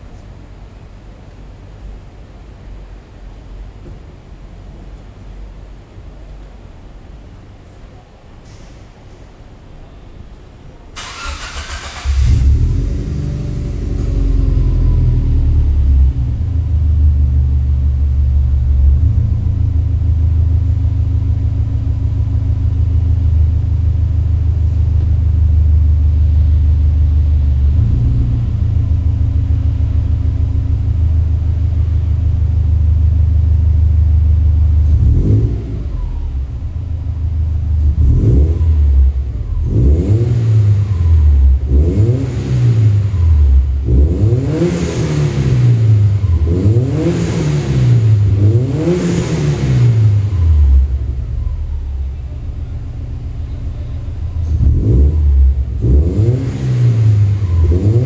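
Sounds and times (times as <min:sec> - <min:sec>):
car engine idling and revving: 0:11.0 - 0:58.0.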